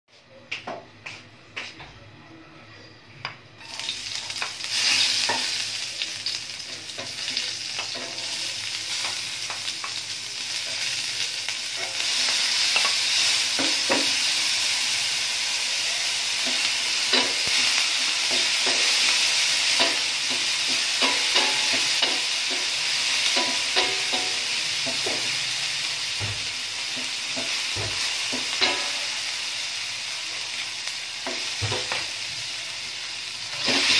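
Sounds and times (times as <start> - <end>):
food sizzling in hot oil: 3.6 - 33.9.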